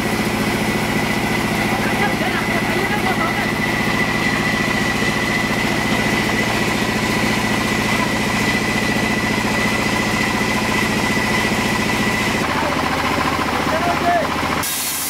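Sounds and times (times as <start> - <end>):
band sawmill running: 0.0 - 15.0.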